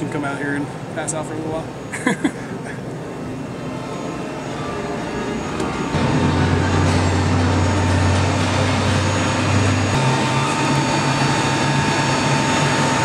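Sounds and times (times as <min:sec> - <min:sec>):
low mechanical rumble: 0:02.5 - 0:13.0.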